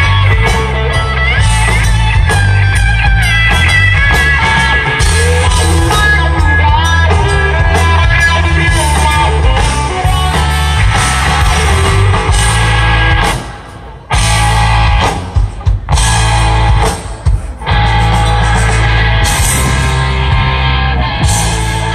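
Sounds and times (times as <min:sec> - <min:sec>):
live rock band playing: 0:00.0 - 0:21.9.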